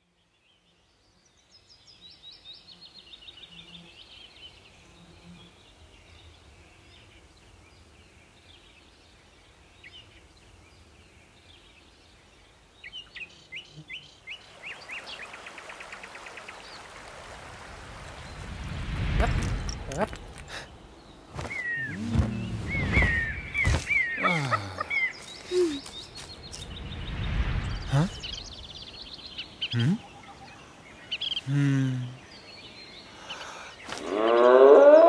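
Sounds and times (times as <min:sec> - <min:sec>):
songbirds singing: 0:00.0 - 0:17.2, 0:17.9 - 0:35.0
faint outdoor ambience: 0:00.0 - 0:35.0.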